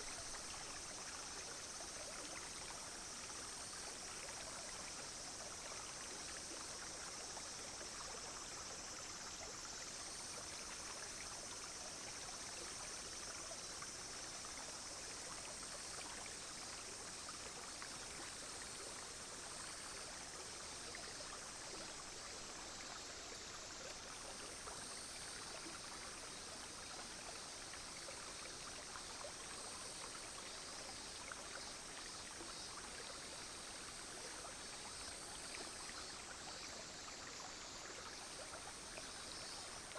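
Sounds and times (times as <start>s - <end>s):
cicadas droning: 0.0s - 39.9s
stream trickling: 0.0s - 39.9s.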